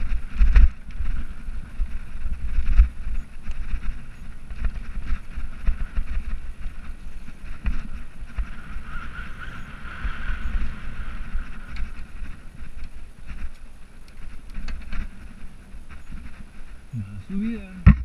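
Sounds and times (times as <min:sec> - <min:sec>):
rattles and clicks from rough ground: 0:00.0 - 0:18.0
wind buffeting microphone: 0:00.0 - 0:18.0.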